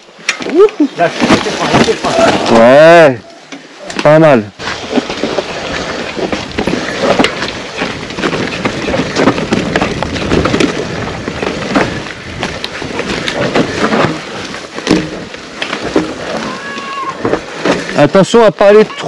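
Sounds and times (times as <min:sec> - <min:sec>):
bike tyres rolling over dirt: 0:00.0 - 0:03.1, 0:04.0 - 0:19.0
bike rattles and knocks: 0:00.2 - 0:02.8, 0:04.0 - 0:18.4.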